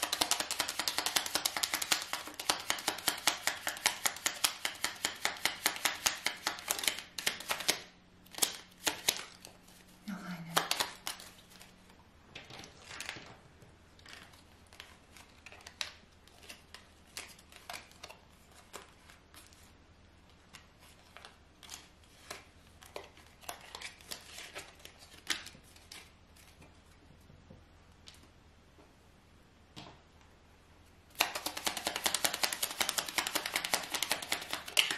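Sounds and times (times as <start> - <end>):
cards being shuffled: 0.0 - 11.7, 12.4 - 13.3, 14.0 - 19.7, 20.5 - 26.7, 31.2 - 34.9.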